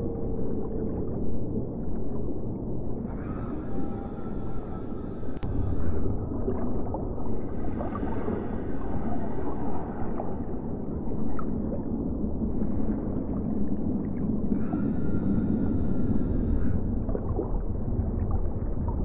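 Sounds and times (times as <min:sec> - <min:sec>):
underwater rumbling wash: 0:00.0 - 0:19.0.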